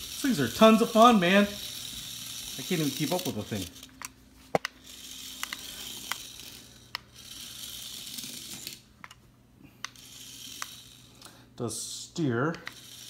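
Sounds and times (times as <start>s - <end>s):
toy car motor whirring: 0.0s - 8.9s, 9.8s - 11.4s, 12.4s - 13.0s.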